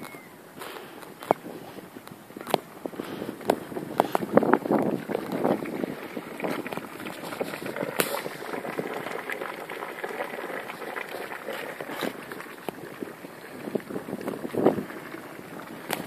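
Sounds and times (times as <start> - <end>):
hot water bubbling and popping: 0.0 - 16.0.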